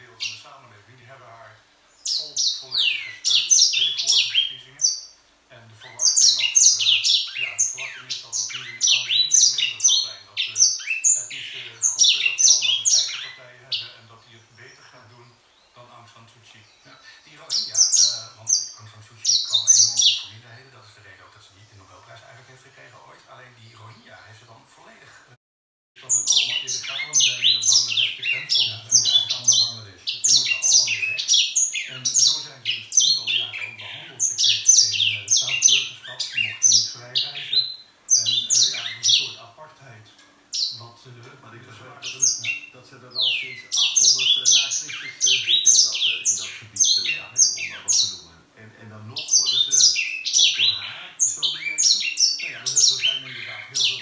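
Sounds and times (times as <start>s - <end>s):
finch singing: 0.0s - 24.9s, 26.0s - 54.0s.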